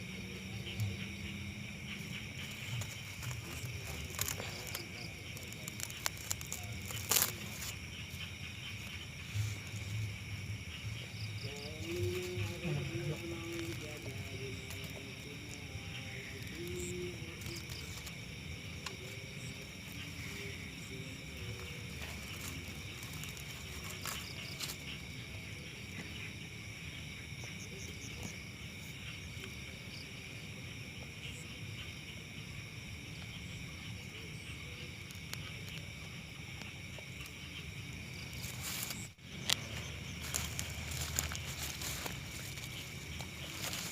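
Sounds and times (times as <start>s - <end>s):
continuous low rumble: 0.0s - 43.9s
night insects chirring: 0.0s - 43.9s.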